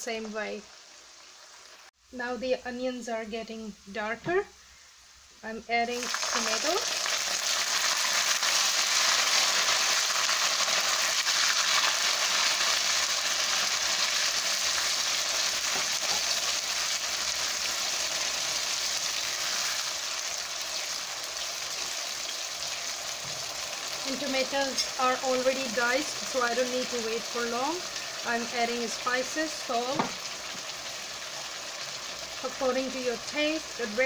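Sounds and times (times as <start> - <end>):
tomatoes sizzling in oil: 0.0 - 34.0.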